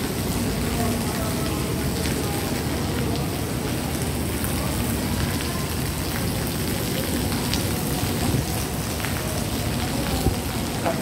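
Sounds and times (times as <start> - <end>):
water pattering on wet floor: 0.0 - 11.0.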